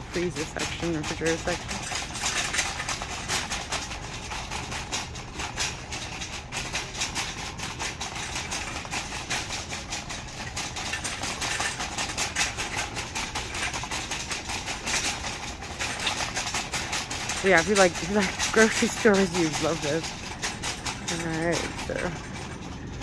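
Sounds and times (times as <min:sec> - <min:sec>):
shopping cart rolling on tiles: 0:00.0 - 0:23.0.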